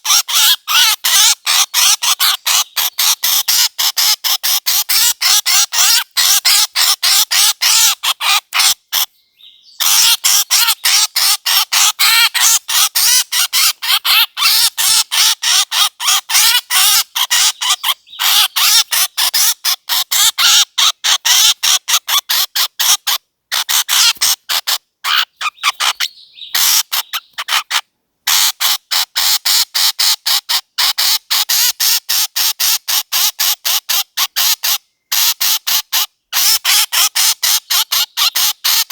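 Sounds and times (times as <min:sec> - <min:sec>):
harsh squawking bird calls: 0:00.0 - 0:38.9.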